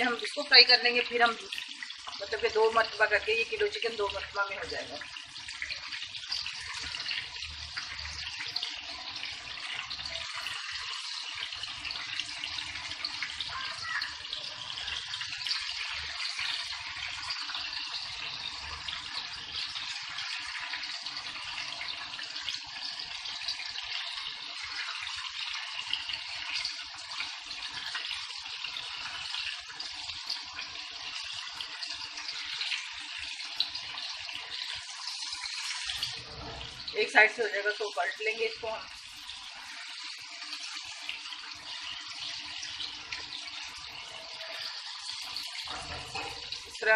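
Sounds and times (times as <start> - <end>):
chicken sizzling in hot oil: 0.0 - 46.9.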